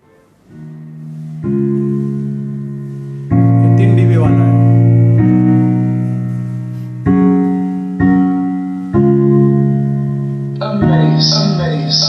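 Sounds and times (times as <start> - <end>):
keyboard chords over loudspeaker: 0.0 - 12.0.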